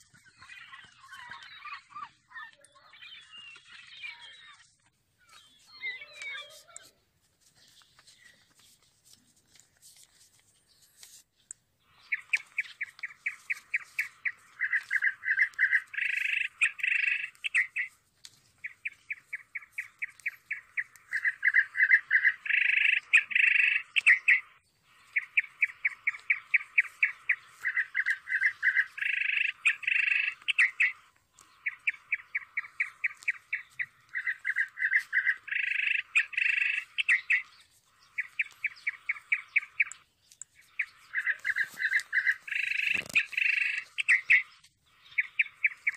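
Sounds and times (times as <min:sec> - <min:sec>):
bird-like chirping: 0:00.0 - 0:09.1, 0:10.2 - 0:45.9.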